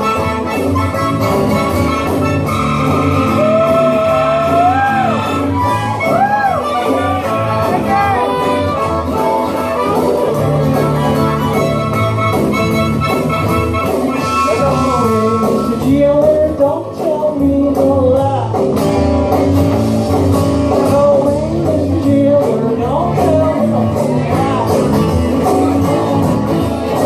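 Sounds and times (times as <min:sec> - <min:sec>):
bending lead guitar melody: 0:00.0 - 0:27.0
blues-rock band playing: 0:00.0 - 0:27.0.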